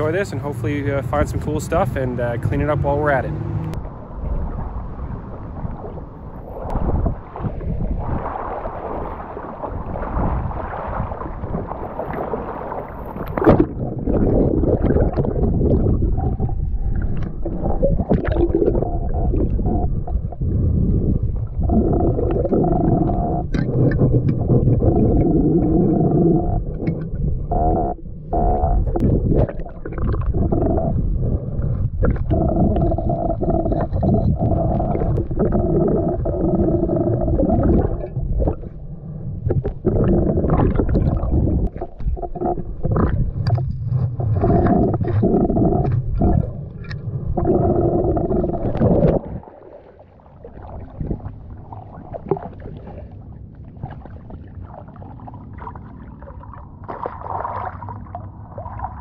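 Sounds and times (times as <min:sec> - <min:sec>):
muffled underwater rumbling: 0:00.0 - 0:59.0.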